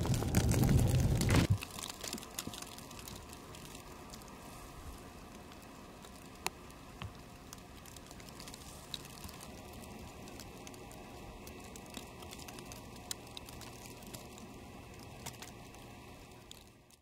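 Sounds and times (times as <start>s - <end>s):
wet snow pattering: 0.0s - 16.7s.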